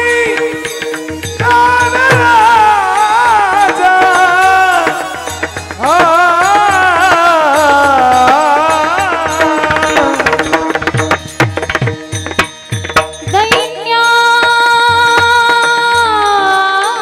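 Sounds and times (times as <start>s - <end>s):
person singing devotional song: 0.0s - 11.4s, 13.3s - 17.0s
mridang drum strokes: 0.0s - 16.9s.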